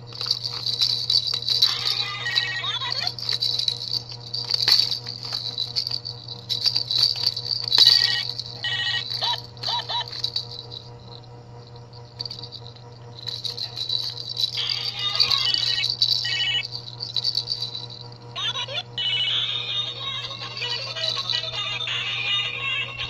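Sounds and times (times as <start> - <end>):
plastic baby rattle shaken: 0.1 - 10.8, 12.2 - 17.9, 20.0 - 23.0.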